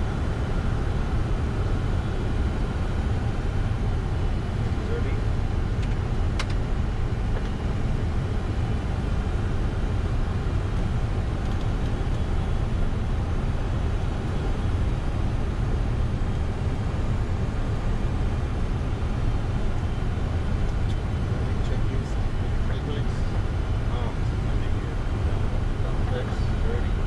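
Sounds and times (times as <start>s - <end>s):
airflow and engine rumble: 0.0s - 27.0s.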